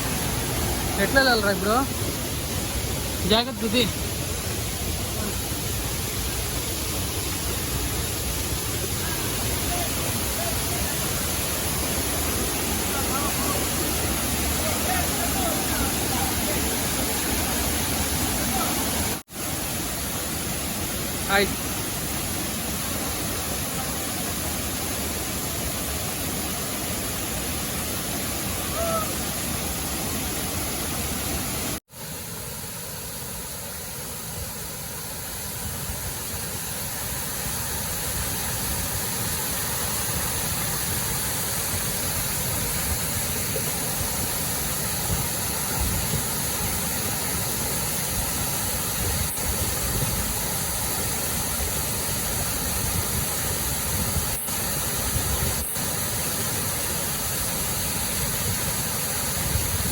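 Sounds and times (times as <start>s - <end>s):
waterfall roar: 0.0s - 59.9s.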